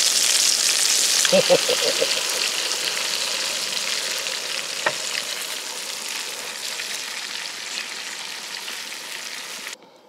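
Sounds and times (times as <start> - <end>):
food sizzling in frying pan: 0.0 - 9.8.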